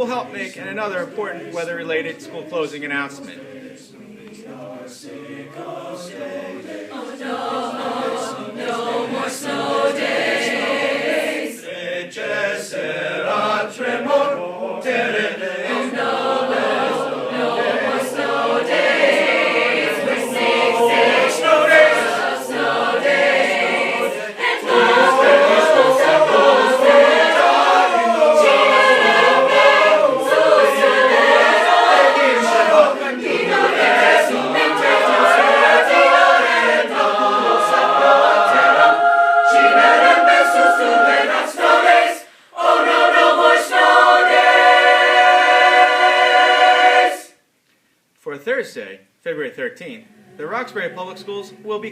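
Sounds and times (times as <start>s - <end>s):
choir singing a cappella: 0.0s - 47.4s, 49.9s - 51.9s.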